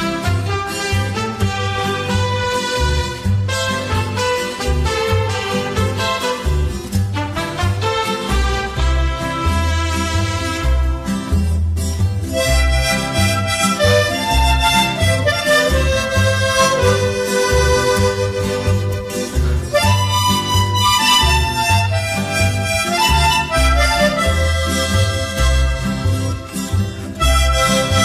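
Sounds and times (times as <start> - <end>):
instrumental background music: 0.0 - 28.0.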